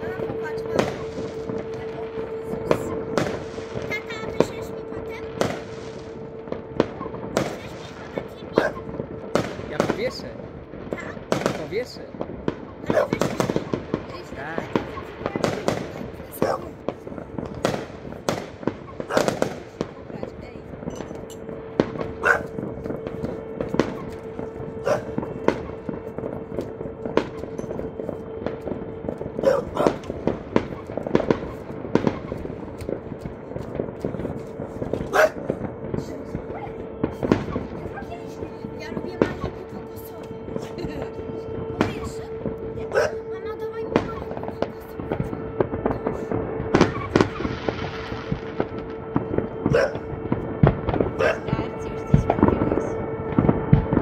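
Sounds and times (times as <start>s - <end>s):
distant fireworks crackling and banging: 0.0s - 54.0s.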